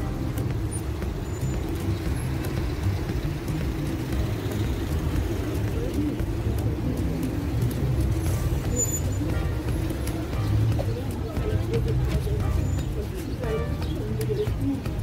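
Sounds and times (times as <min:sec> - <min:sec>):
cars driving slowly past: 0:00.0 - 0:15.0.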